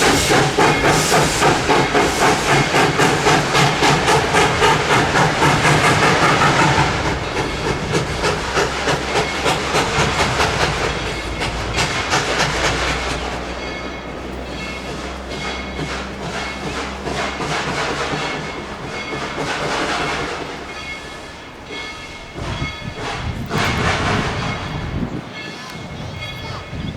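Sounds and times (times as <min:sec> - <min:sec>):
steam locomotive chuffing: 0:00.0 - 0:26.9
train rumble and hiss: 0:00.0 - 0:26.9.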